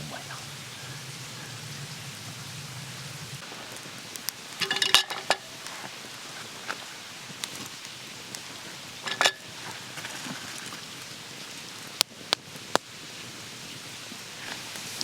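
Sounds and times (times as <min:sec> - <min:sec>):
food sizzling on a griddle: 0:00.1 - 0:15.0.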